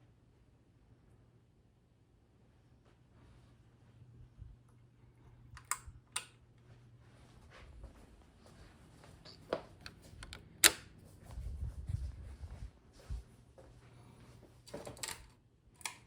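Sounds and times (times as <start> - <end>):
ceiling fan motor humming: 0.0 - 16.0.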